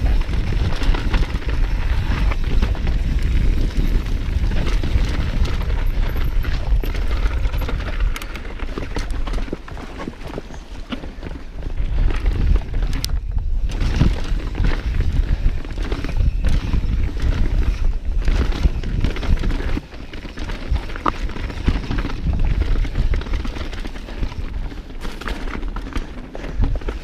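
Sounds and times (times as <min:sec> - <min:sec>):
bike rattling and knocking: 0:00.0 - 0:27.0
bike tires on dirt and stones: 0:00.0 - 0:27.0
wind rumble on microphone: 0:00.0 - 0:27.0.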